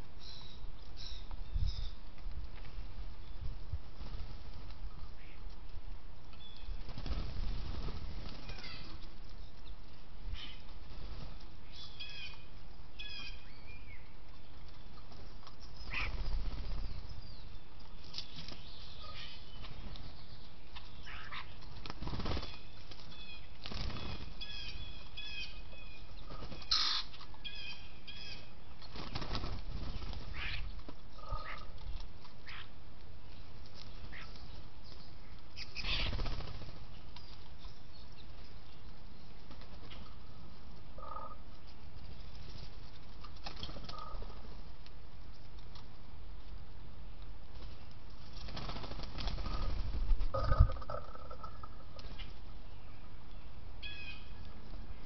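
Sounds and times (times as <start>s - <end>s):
birds chirping: 0.0s - 5.6s, 6.2s - 55.0s.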